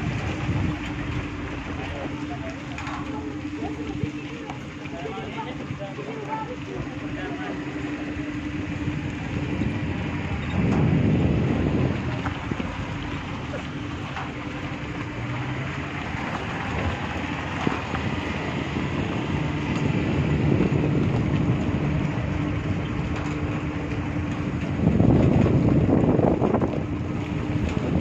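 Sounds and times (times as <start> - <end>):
pickup truck engine and road noise: 0.0 - 28.0
wind buffeting microphone: 0.0 - 28.0.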